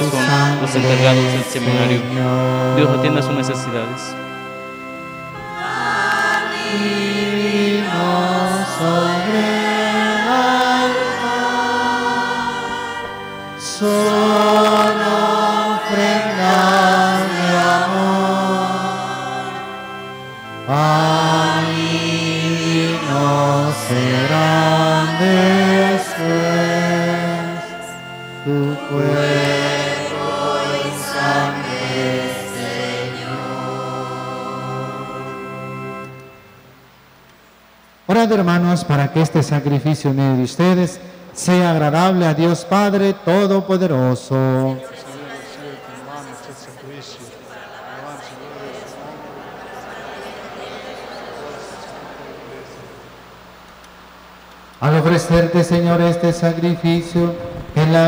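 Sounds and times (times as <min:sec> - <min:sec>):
church choir singing a hymn: 0:00.0 - 0:36.7, 0:38.2 - 0:58.0
sustained instrumental chords: 0:00.0 - 0:43.4, 0:44.3 - 0:58.0.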